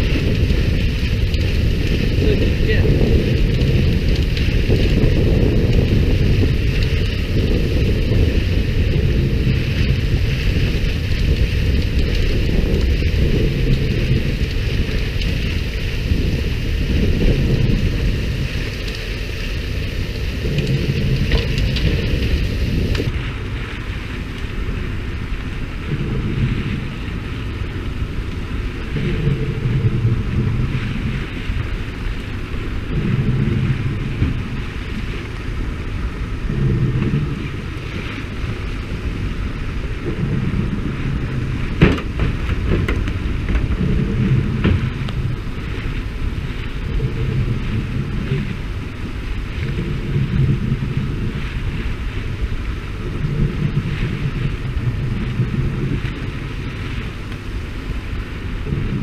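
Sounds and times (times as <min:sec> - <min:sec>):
fishing boat engine rumble: 0:00.0 - 0:59.0
wind buffeting microphone: 0:00.0 - 0:59.0.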